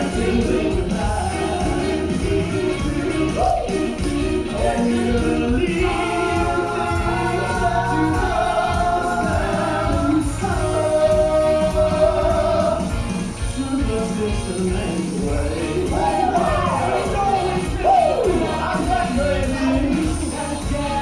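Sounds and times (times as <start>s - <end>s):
live soul band: 0.0s - 21.0s
singers holding notes in harmony: 0.0s - 21.0s.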